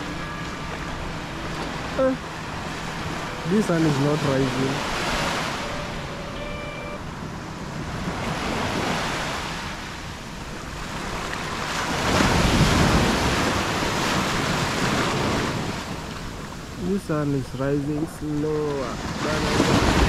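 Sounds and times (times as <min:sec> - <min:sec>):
ocean surf washing onto beach: 0:00.0 - 0:20.0
wind rumble on microphone: 0:00.0 - 0:20.0.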